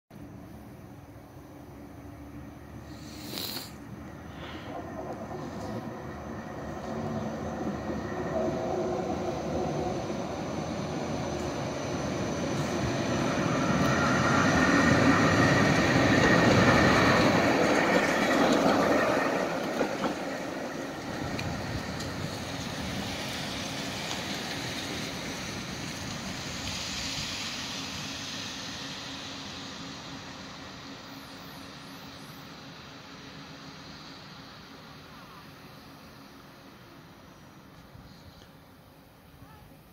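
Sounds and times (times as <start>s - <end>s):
tram wheels on rails: 0.1s - 39.9s.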